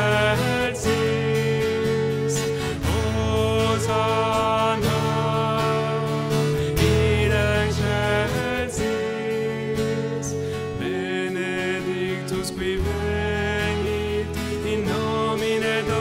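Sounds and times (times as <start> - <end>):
acoustic guitar: 0.0 - 16.0
person singing: 0.0 - 16.0.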